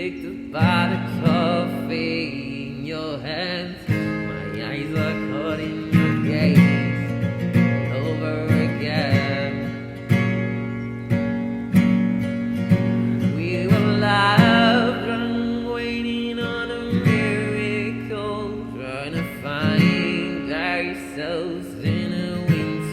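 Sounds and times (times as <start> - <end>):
person singing: 0.0 - 10.0, 13.2 - 22.9
acoustic guitar strumming: 0.0 - 22.9.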